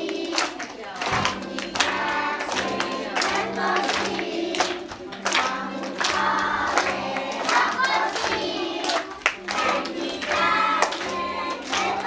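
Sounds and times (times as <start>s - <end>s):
children singing together: 0.0s - 12.0s
music: 0.0s - 12.0s.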